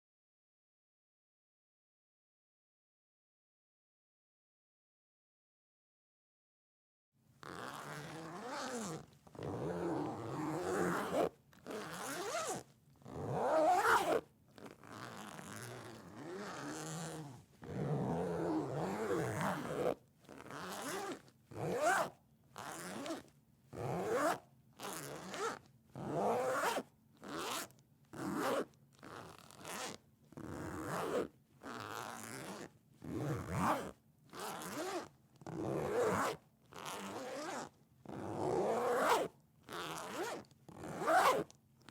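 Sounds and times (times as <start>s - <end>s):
zipper zipping and unzipping: 7.4s - 41.9s.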